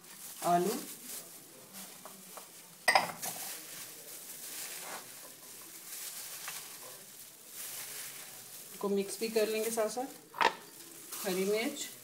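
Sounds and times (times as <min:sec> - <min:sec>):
vegetables rustling in a glass bowl: 0:00.0 - 0:12.0.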